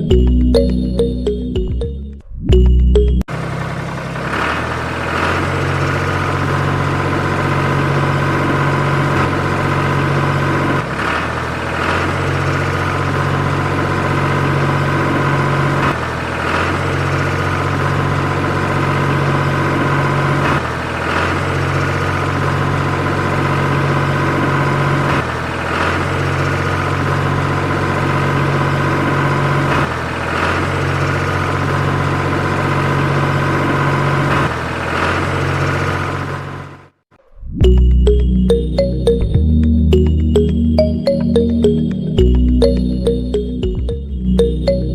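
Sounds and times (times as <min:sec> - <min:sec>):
tractor engine idling: 0:02.5 - 0:36.8, 0:37.6 - 0:44.9.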